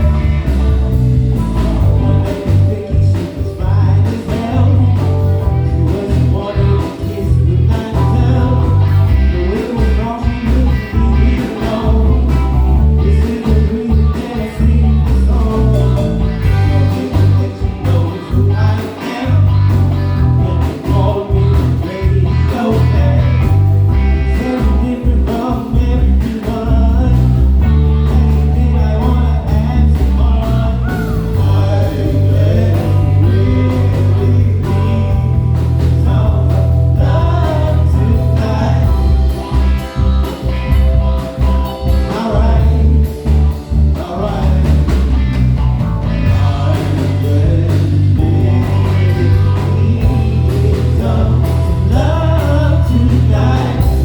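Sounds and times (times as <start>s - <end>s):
drums: 0.0s - 54.0s
heavy bass line: 0.0s - 54.0s
melodic lead line: 0.0s - 54.0s.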